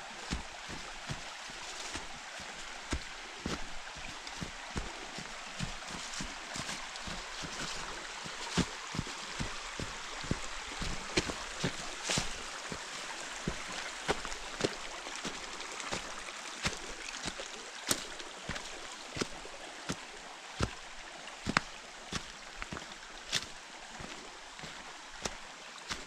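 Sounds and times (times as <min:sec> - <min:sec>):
footsteps on forest path: 0:00.0 - 0:26.0
stream water flowing: 0:00.0 - 0:26.0.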